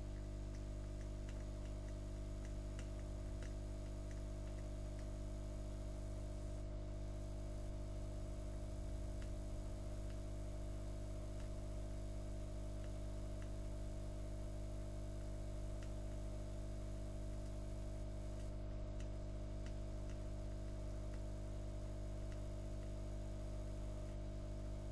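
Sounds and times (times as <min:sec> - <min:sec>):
faint ticks: 0:00.0 - 0:05.8, 0:08.0 - 0:24.8
low electrical hum: 0:00.0 - 0:24.9.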